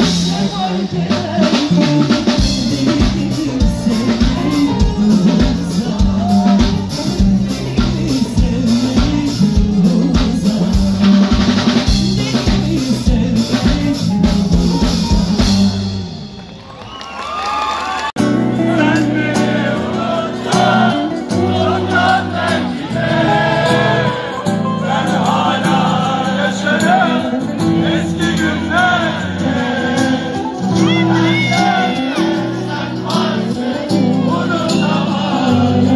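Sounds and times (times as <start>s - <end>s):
person singing: 0.0s - 15.7s, 18.2s - 35.9s
live band with drum kit: 0.0s - 35.9s.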